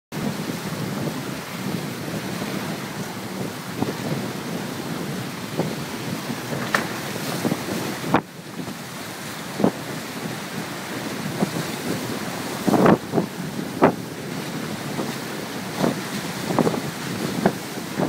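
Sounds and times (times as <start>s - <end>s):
water rushing along hull: 0.1s - 18.0s
waves slapping hull: 0.1s - 18.0s
wind buffeting microphone: 0.2s - 18.0s.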